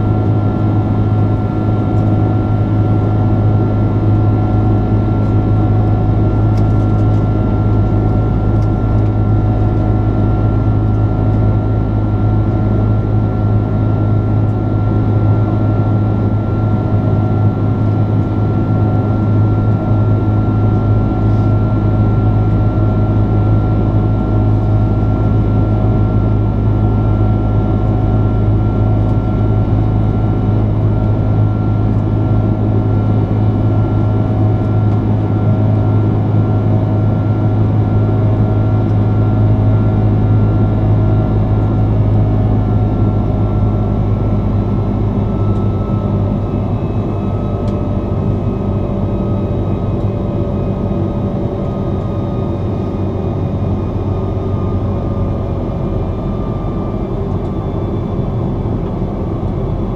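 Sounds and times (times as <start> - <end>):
airplane cabin drone: 0.0 - 59.9.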